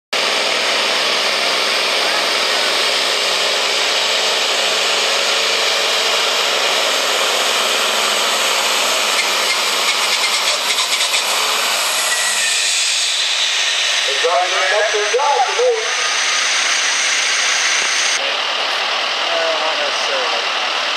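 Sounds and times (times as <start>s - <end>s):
diesel truck engine under load: 0.1s - 20.9s.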